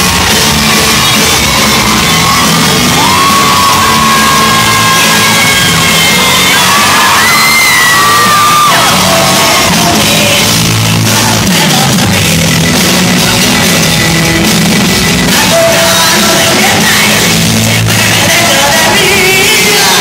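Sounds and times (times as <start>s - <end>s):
bass guitar: 0.0s - 20.0s
drums: 0.0s - 20.0s
electric guitars: 0.0s - 20.0s
person singing: 1.0s - 20.0s.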